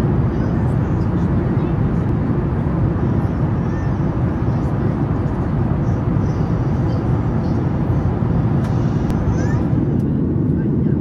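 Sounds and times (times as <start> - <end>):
airplane cabin engine drone: 0.0 - 11.0.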